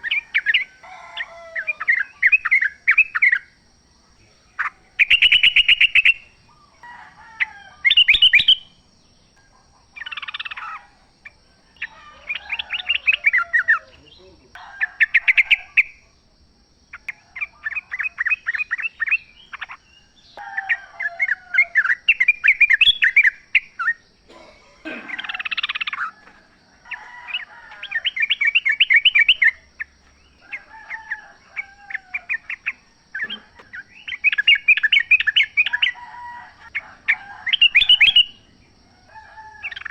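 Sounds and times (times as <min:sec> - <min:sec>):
birds chattering song: 0:00.0 - 0:39.9.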